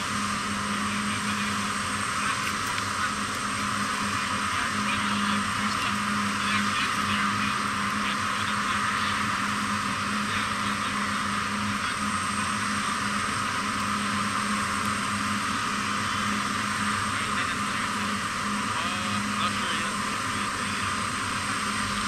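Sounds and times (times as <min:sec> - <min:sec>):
jet turbine hiss: 0:00.0 - 0:22.0
low hum: 0:00.0 - 0:22.0.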